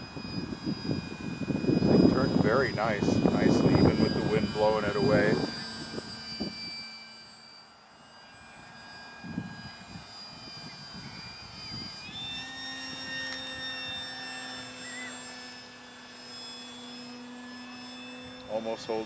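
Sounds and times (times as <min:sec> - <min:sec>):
electric motor and propeller whine: 0:00.0 - 0:19.0.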